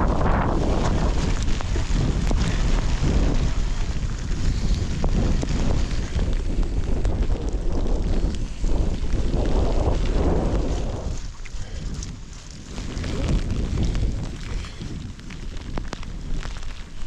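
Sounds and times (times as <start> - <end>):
wind rumbling on microphone: 0.0 - 17.0
bicycle clicks and ticks: 1.1 - 11.0, 11.6 - 17.0.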